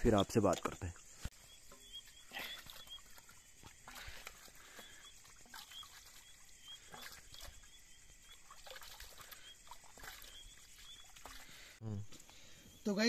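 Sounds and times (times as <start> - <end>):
plates rinsed and scrubbed in water: 0.0 - 11.8
insects chirping: 0.0 - 13.0.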